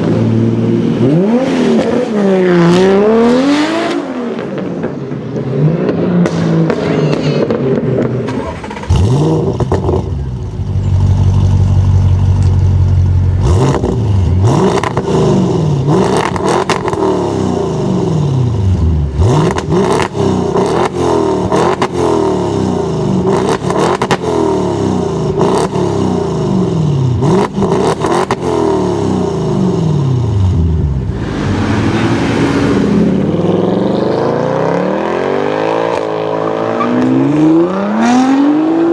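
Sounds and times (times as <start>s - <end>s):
car engine revving hard: 0.0s - 4.6s, 7.4s - 10.3s, 13.4s - 38.9s.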